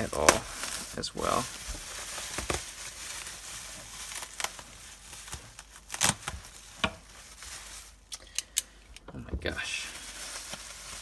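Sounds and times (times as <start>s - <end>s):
packing material rustling: 0.0s - 8.8s, 9.4s - 11.0s.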